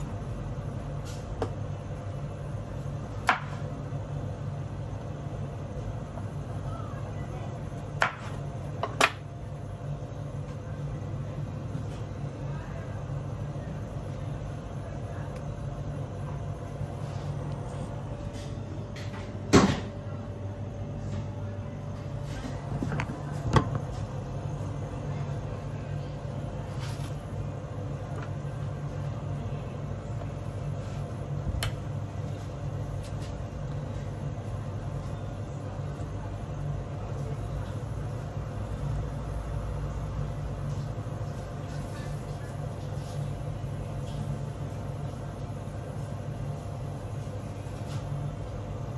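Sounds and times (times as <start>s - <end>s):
kitchen machine hum: 0.0s - 48.9s.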